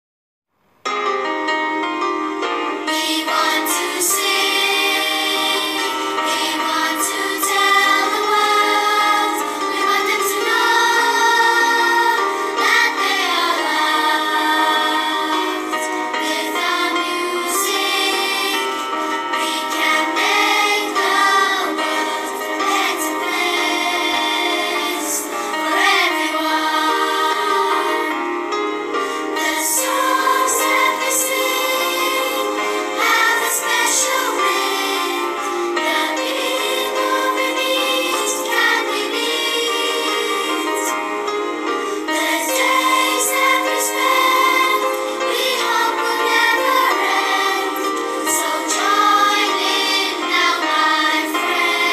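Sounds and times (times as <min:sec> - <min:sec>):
children's choir singing: 0:02.8 - 0:51.9.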